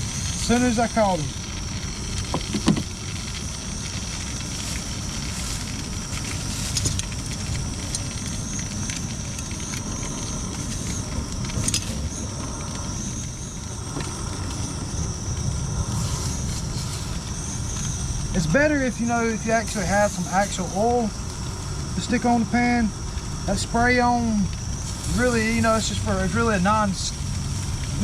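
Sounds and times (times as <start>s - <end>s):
fish sizzling in a pan: 0.0s - 28.0s
steady low rumble: 0.0s - 28.0s.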